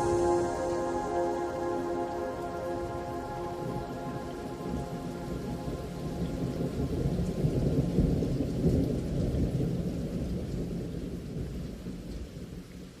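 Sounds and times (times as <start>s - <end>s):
low rolling thunder: 0.0s - 12.6s
rain: 0.0s - 13.0s.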